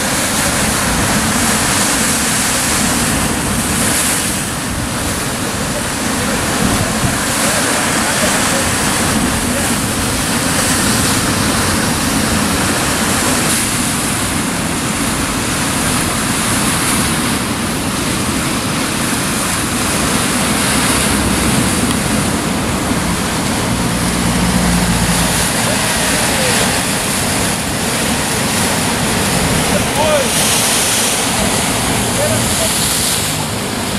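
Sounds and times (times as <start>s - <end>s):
sea surf breaking on rocks: 0.0s - 33.9s.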